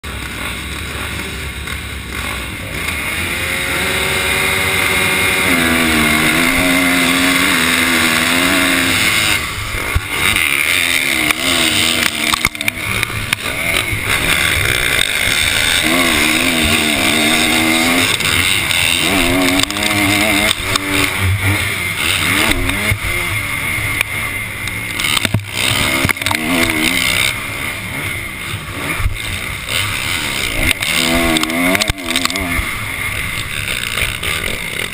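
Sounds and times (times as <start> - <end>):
motocross bike engine revving: 0.0 - 34.9
other dirt bikes: 0.0 - 34.9.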